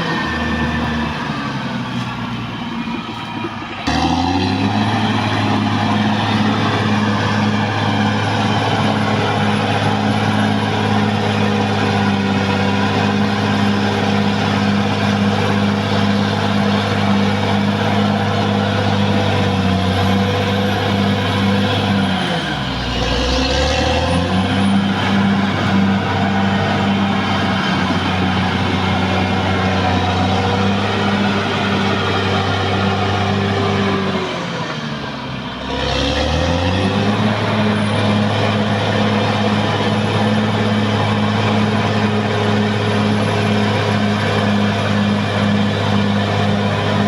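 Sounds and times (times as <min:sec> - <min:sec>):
bulldozer diesel engine running: 0:00.0 - 0:47.0.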